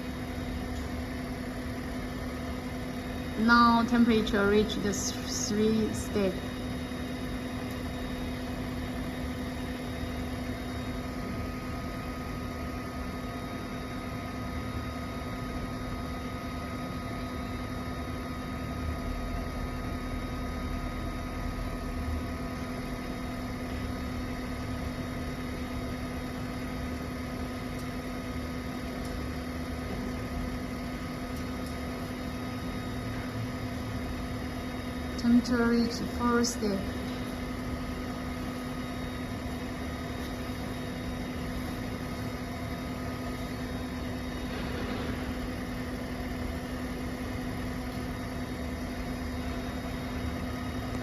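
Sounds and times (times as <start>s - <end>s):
hot-air blower humming: 0.0s - 51.0s.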